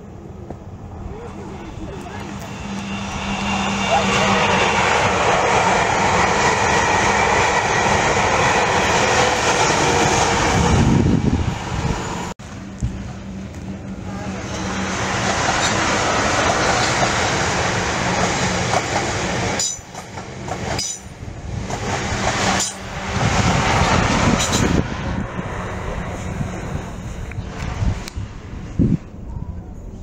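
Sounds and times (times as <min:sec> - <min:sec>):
train wheel and track noise: 0:00.0 - 0:30.0.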